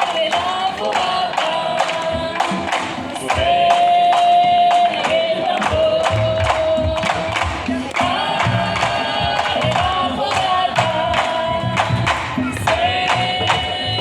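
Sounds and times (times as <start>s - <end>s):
drums playing steady beat: 0.0s - 14.0s
group of voices singing: 0.0s - 14.0s.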